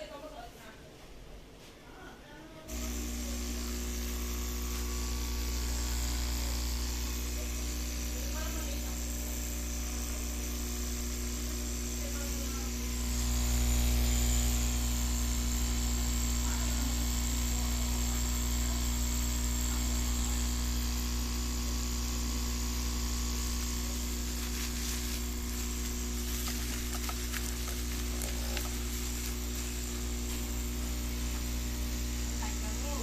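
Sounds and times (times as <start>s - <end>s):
hot air unit humming: 0.0s - 33.0s.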